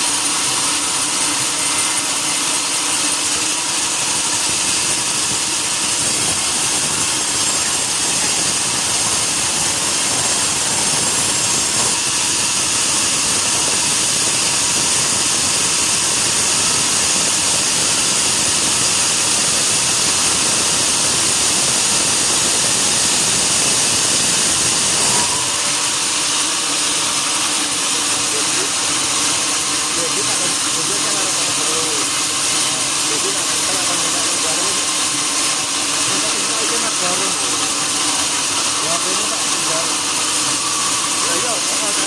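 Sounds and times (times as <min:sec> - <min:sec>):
sawmill saw cutting log: 0:00.0 - 0:42.0.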